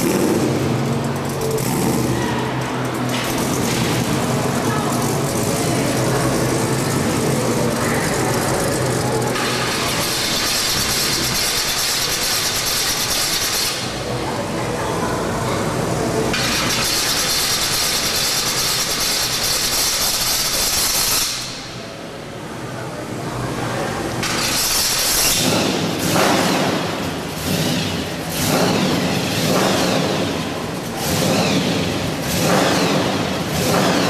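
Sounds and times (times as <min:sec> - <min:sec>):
hot-rod engine running: 0:00.0 - 0:14.2, 0:16.1 - 0:21.8, 0:24.1 - 0:34.0.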